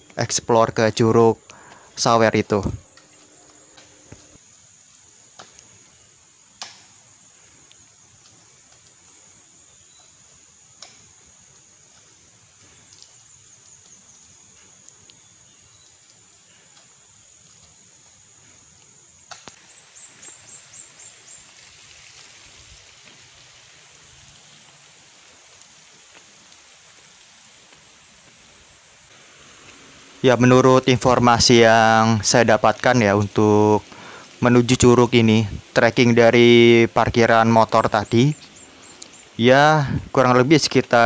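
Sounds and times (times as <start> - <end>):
faint steady hiss: 0.0 - 41.0
high insect drone: 0.0 - 41.0.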